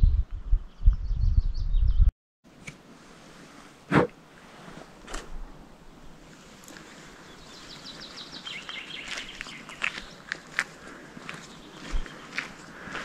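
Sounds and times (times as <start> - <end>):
quiet outdoor ambience: 2.5 - 13.0.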